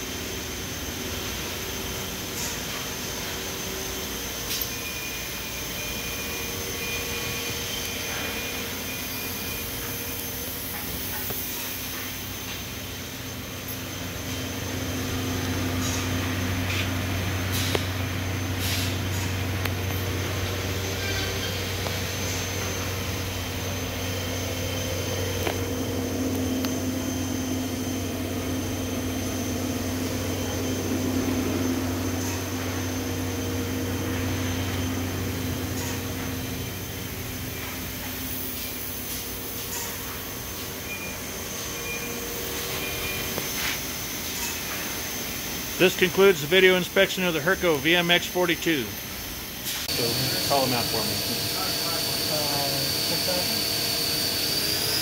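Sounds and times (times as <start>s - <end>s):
machine low hum with high whine: 0.0s - 55.0s.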